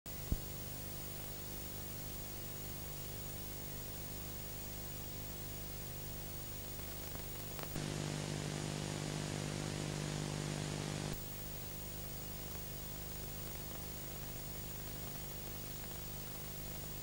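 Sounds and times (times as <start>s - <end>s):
low electrical mains hum: 0.1s - 17.0s
steady hiss: 0.1s - 17.0s.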